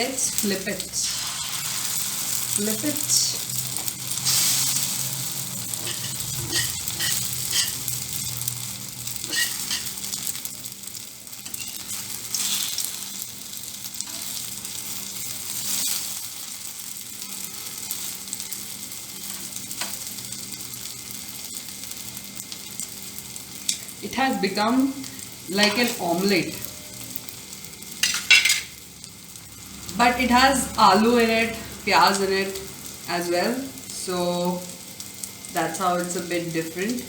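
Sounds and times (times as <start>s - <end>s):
omelette sizzling in oil: 0.0s - 37.0s.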